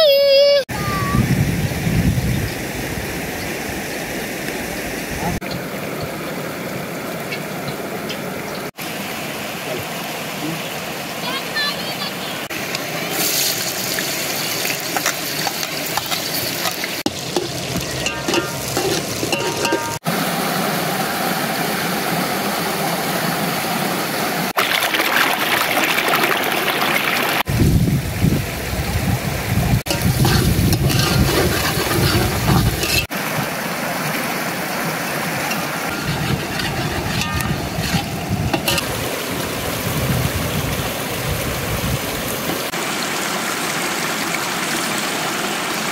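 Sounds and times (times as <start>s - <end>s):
river rushing over stones: 2.7s - 27.6s, 29.8s - 45.9s.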